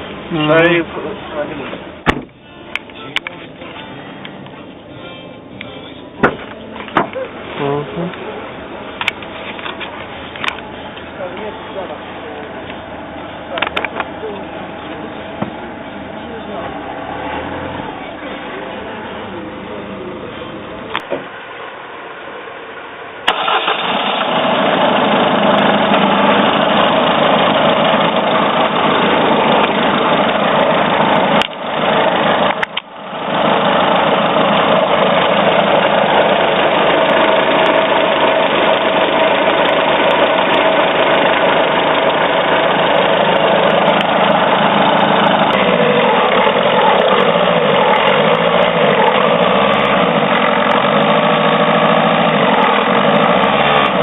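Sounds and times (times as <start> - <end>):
car engine running: 0.0 - 21.6, 22.9 - 54.0.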